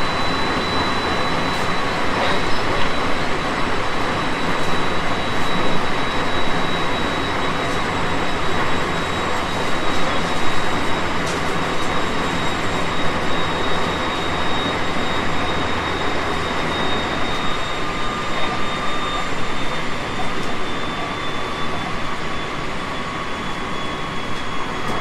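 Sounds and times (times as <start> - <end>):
high train whine: 0.0 - 25.0.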